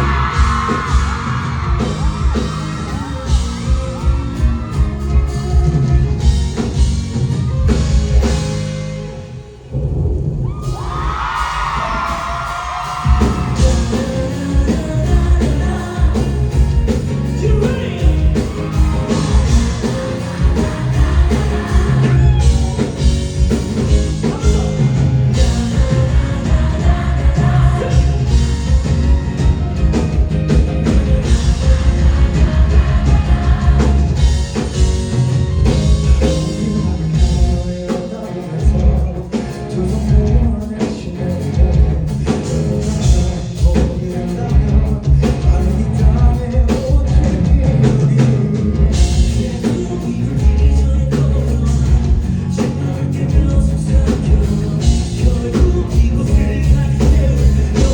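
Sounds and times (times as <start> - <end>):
bass guitar: 0.0 - 57.9
drums: 0.0 - 57.9
person singing: 10.6 - 29.9, 30.5 - 57.9.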